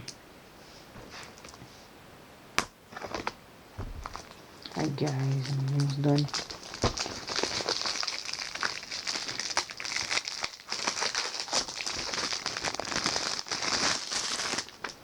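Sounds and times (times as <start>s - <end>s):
plastic shrink-wrap crinkling: 2.9s - 15.0s.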